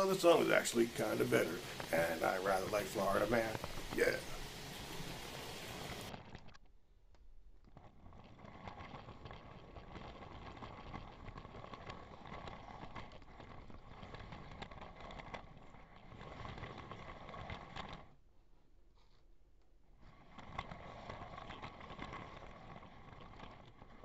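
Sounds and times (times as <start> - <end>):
model train wheels rattling on track: 0.0 - 6.5, 7.7 - 18.1, 20.2 - 24.0.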